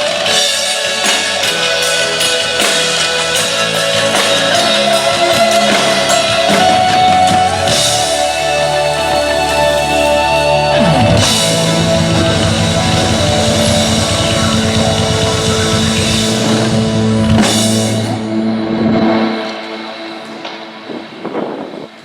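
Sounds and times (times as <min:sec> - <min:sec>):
rock band playing: 0:00.0 - 0:21.6
cymbal crashes: 0:00.0 - 0:21.8.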